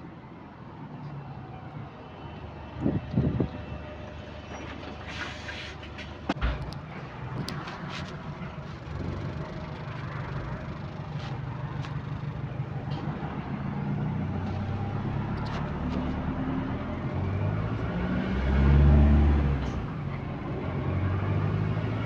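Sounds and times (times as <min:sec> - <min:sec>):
bus engine with exhaust leak: 0:02.3 - 0:22.0.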